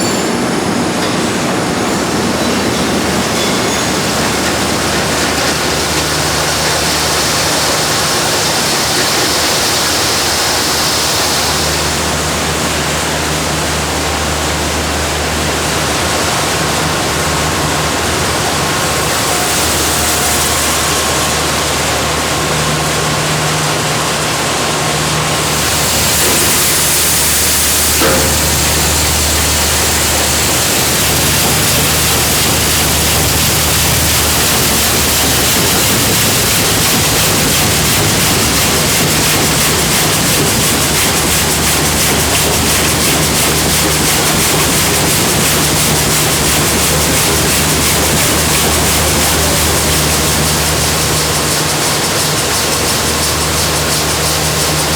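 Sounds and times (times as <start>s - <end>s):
low machinery hum: 0.0s - 54.9s.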